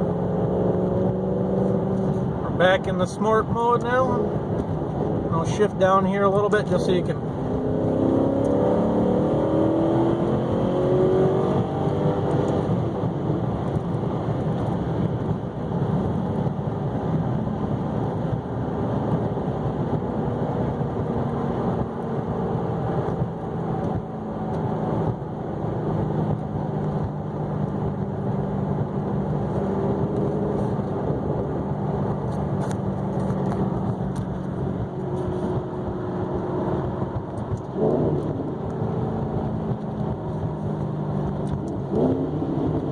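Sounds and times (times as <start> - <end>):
car engine and exhaust revving: 0.0 - 42.9.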